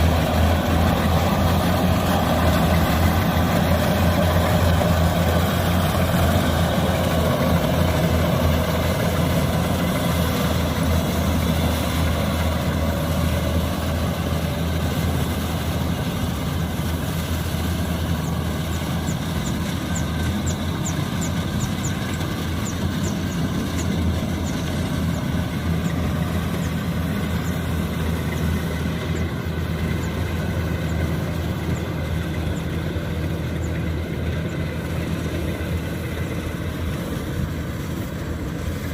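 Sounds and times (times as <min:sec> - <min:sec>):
combine harvester diesel engine: 0:00.0 - 0:38.9
machinery rattling: 0:00.0 - 0:38.9.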